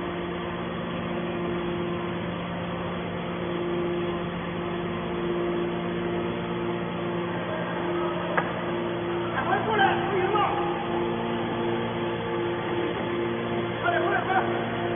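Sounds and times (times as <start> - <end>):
hydraulic power unit humming: 0.0 - 14.9.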